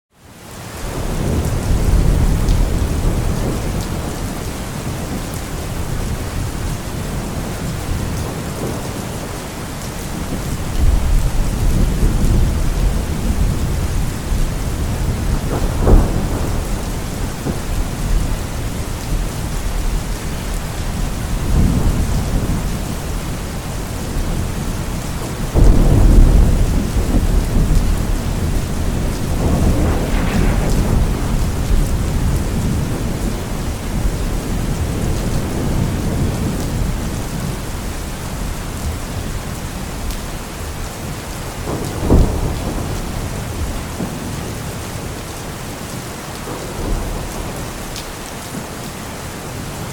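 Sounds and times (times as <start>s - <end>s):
steady rain: 0.1s - 49.9s
rolling thunder: 0.9s - 45.2s.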